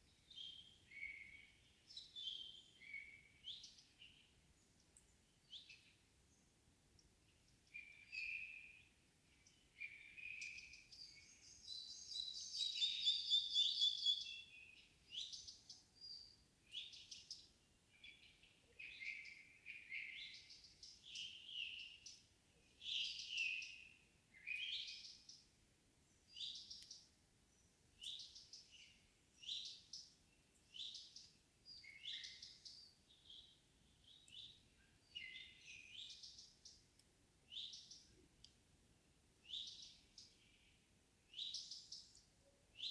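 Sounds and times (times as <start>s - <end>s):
songbirds singing: 0.0s - 38.6s, 39.4s - 42.9s.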